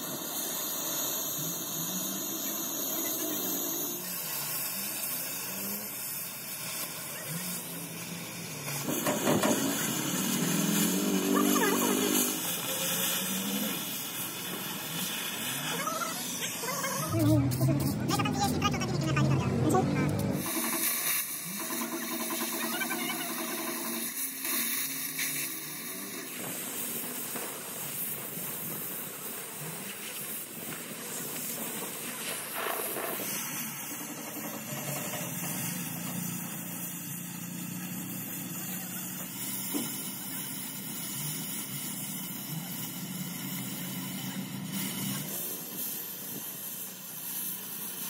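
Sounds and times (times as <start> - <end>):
cutting torch hissing: 0.0 - 48.0.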